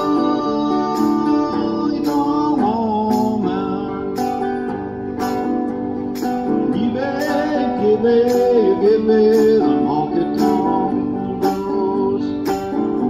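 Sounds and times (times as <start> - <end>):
electric guitar lead line: 0.0 - 13.0
guitar chords strummed: 0.0 - 13.0.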